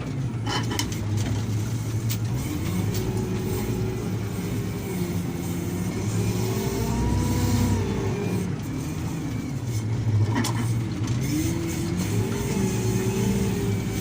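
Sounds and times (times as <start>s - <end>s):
heavy machinery diesel engine: 0.0s - 14.0s.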